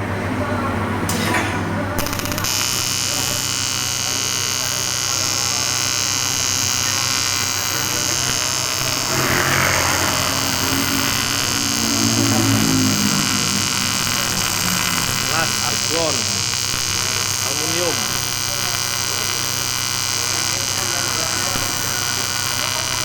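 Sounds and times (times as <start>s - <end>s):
welding arc buzzing: 1.1s - 23.0s.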